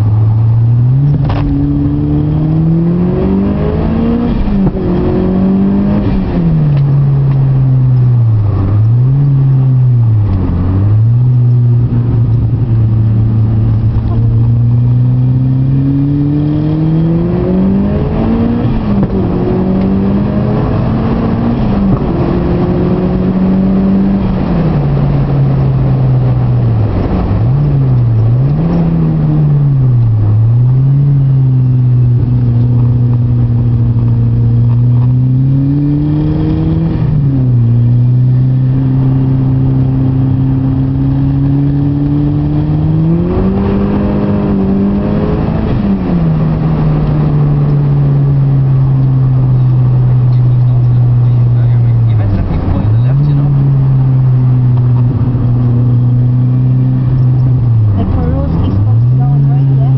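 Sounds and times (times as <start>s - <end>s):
car engine running hard: 0.0s - 59.9s.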